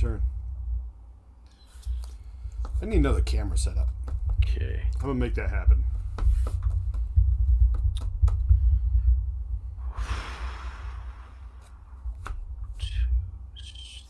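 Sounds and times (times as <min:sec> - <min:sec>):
steady low rumble: 0:00.0 - 0:13.8.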